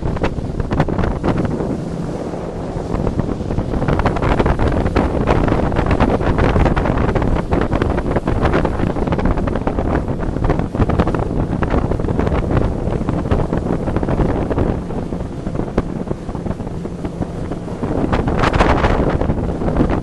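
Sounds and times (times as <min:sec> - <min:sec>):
boat engine running: 0:00.0 - 0:20.0
wind buffeting microphone: 0:00.0 - 0:20.0.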